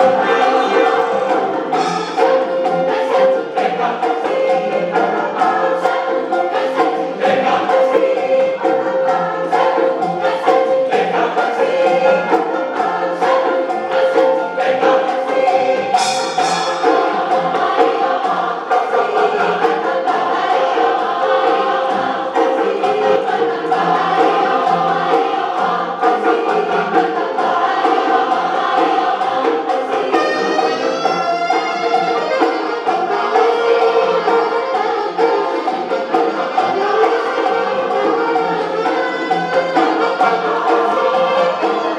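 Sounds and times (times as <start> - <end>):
large choir singing: 0.0 - 41.9
percussion drum strokes: 0.0 - 41.9.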